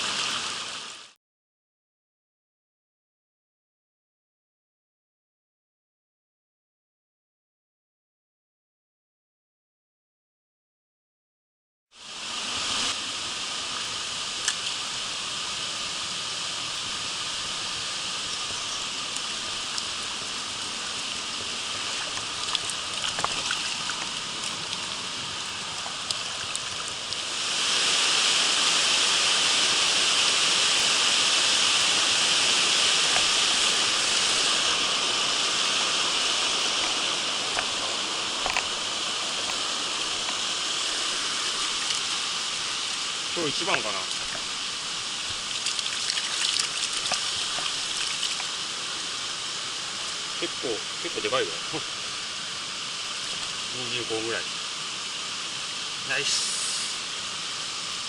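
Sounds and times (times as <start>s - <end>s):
stream rushing over rocks: 0.0s - 1.2s, 12.0s - 58.0s.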